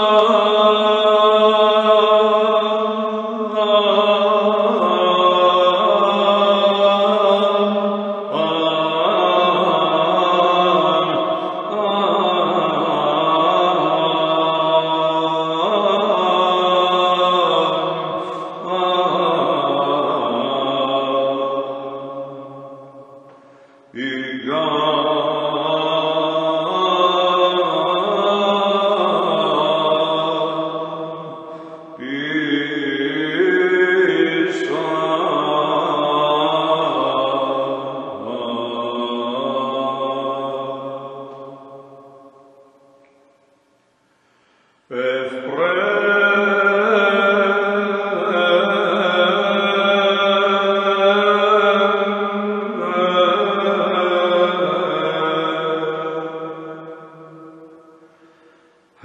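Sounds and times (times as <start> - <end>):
low vocal drone: 0.0 - 43.3, 44.3 - 59.0
solo chanter singing: 0.0 - 59.0.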